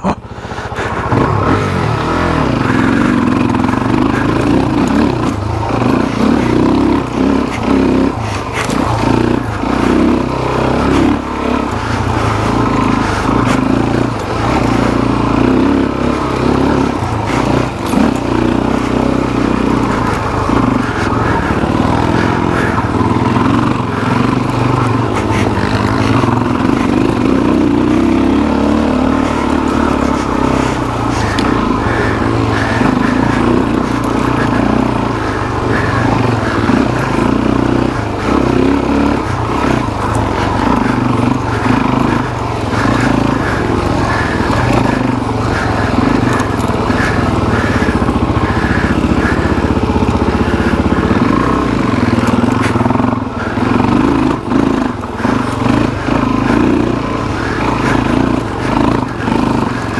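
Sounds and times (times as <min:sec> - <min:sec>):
bike knocking and rattling: 0:00.0 - 0:59.9
motorbike engine revving: 0:00.0 - 0:59.9.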